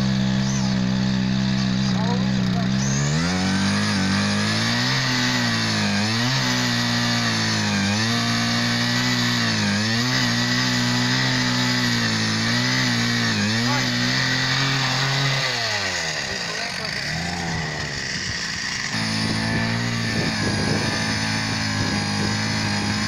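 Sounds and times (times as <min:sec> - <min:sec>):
earth auger engine running: 0:00.0 - 0:23.0.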